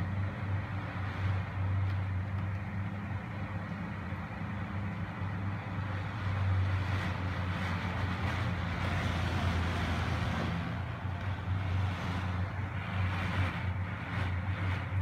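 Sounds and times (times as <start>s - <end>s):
low hum: 0.0s - 15.0s
strong wind through exhaust fan: 0.0s - 15.0s.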